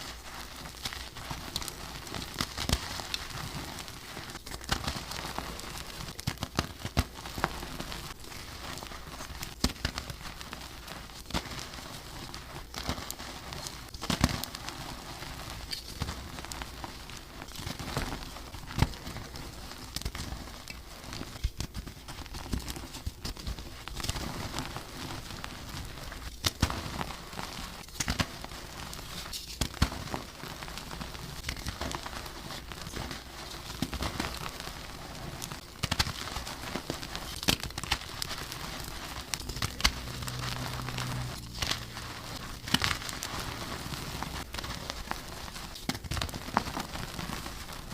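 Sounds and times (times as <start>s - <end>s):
chalk crunching and crackling: 0.0s - 47.9s.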